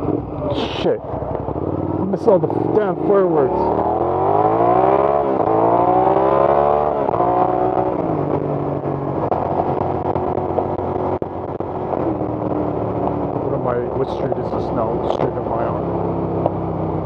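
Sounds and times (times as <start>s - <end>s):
motorcycle accelerating: 0.0s - 17.0s.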